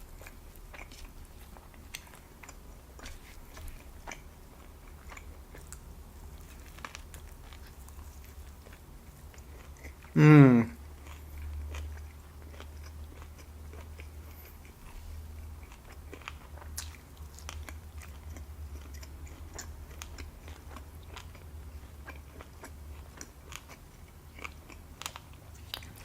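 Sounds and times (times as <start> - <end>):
chewing food: 0.0 - 10.2, 10.8 - 26.0
steady low hum: 0.0 - 26.0.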